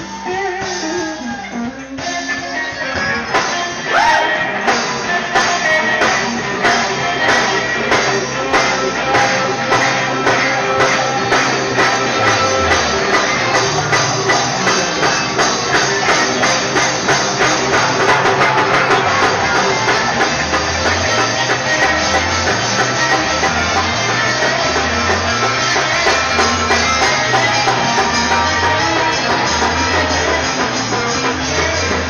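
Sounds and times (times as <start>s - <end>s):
moving bass line: 0.0s - 32.0s
rock band playing: 0.0s - 32.0s
steady drumbeat: 0.0s - 32.0s.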